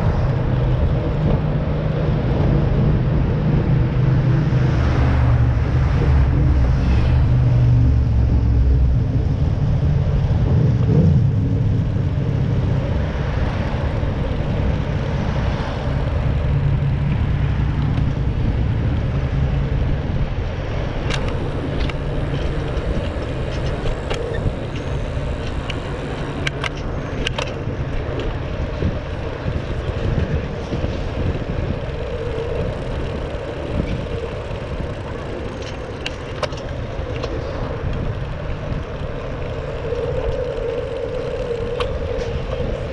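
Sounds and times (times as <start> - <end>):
road traffic rumble: 0.0 - 42.9
wind on microphone: 0.0 - 42.9.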